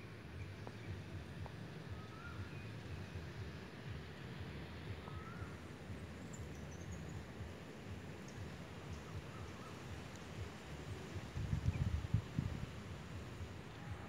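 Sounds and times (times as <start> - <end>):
low rumble on the microphone: 0.0 - 14.0.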